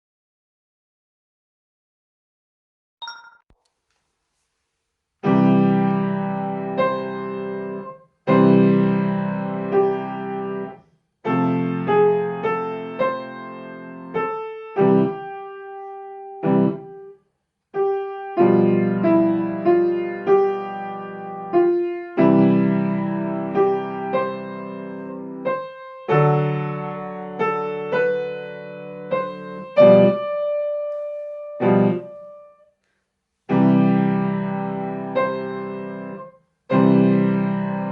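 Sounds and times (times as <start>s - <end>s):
piano piece: 5.2s - 17.2s, 17.8s - 32.7s, 33.5s - 37.9s.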